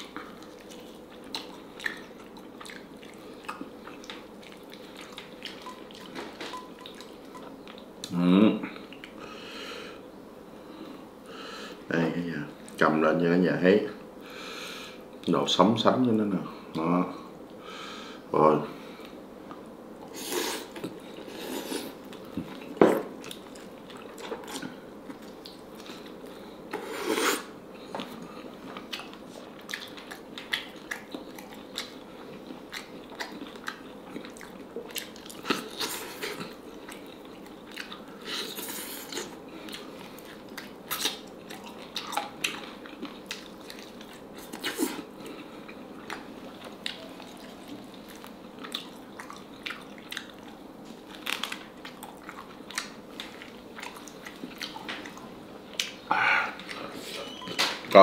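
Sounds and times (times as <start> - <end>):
person chewing: 0.0 - 9.2, 20.0 - 57.3.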